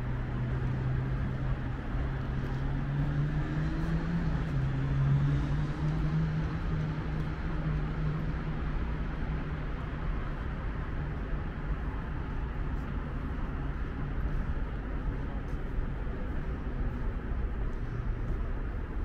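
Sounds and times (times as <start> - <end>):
engine running with low hum: 0.0 - 19.0
outdoor city noise: 0.0 - 19.0.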